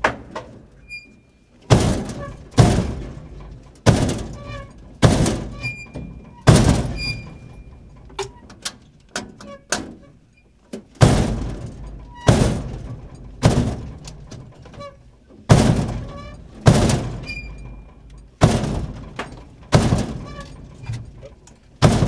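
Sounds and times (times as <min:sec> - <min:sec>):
dumpster door slamming: 0:00.0 - 0:01.0, 0:01.6 - 0:08.5, 0:11.0 - 0:22.0.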